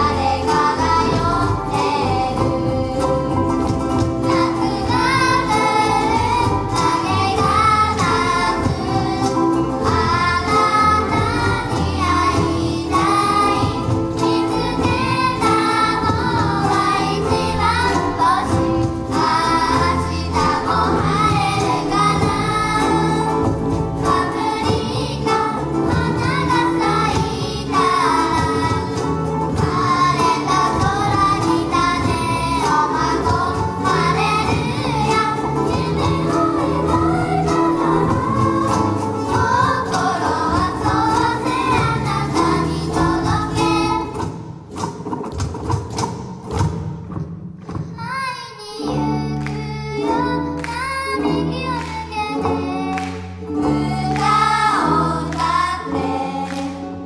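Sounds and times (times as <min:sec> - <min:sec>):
children singing in unison: 0:00.0 - 0:44.3, 0:48.8 - 0:57.0
cajon beat: 0:00.0 - 0:57.0
ukulele strumming: 0:00.0 - 0:57.0.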